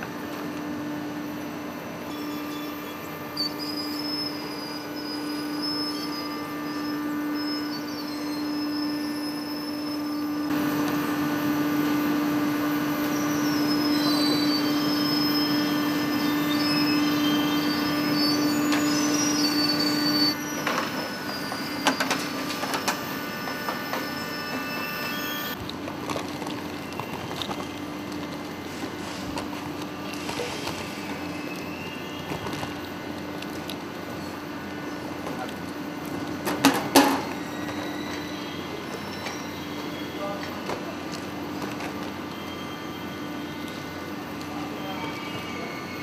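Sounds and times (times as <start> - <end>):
machinery humming: 0.0 - 46.0
high-pitched machine squeals: 1.2 - 25.6, 29.9 - 33.1, 35.8 - 46.0.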